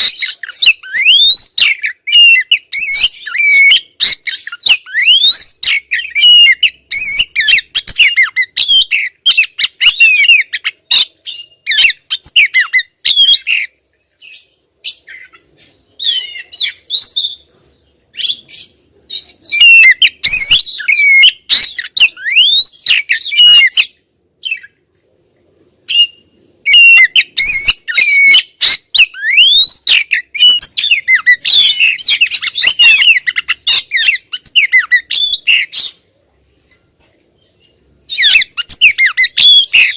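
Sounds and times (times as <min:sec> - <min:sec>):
bird whistling and chirping: 0:00.0 - 0:17.4, 0:18.2 - 0:24.7, 0:25.8 - 0:36.0, 0:37.6 - 0:39.9.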